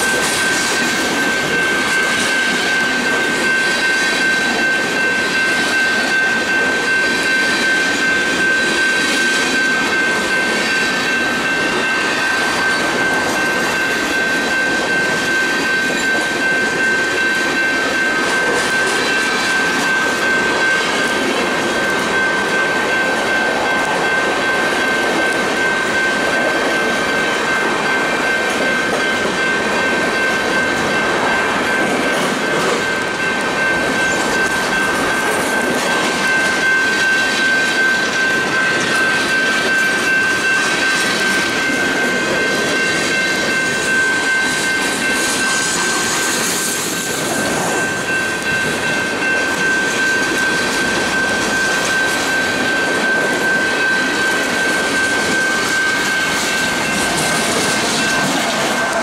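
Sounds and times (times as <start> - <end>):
crossing warning bell: 0.0 - 59.0
train wheels clacking on rails: 0.0 - 59.0.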